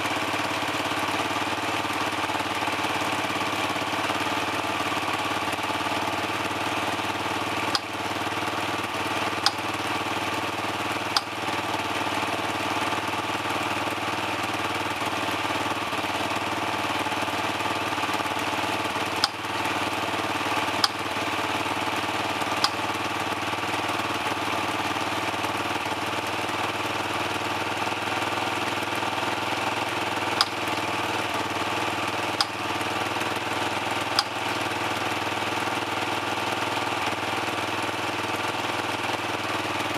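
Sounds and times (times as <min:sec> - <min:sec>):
dirt bike engine idling: 0:00.0 - 0:39.9.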